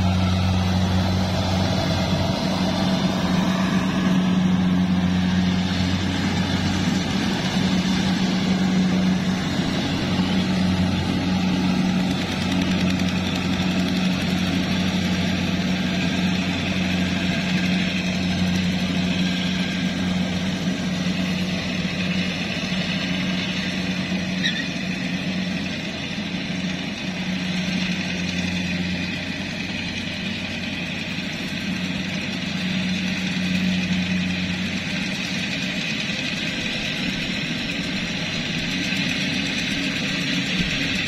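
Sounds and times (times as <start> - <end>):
combine harvester engine humming: 0.0 - 41.0.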